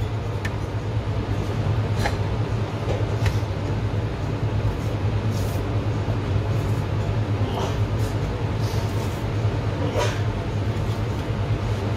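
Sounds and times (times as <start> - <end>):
kitchen machinery hum: 0.0 - 11.9.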